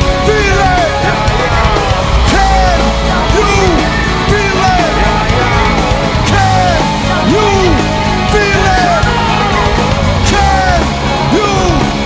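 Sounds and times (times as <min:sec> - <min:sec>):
bending lead guitar line: 0:00.0 - 0:12.0
live rock band playing: 0:00.0 - 0:12.0.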